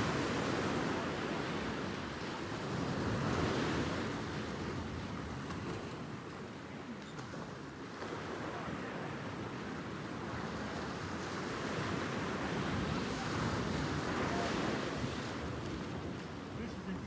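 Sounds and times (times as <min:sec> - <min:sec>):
sea washing around boat: 0:00.0 - 0:17.0.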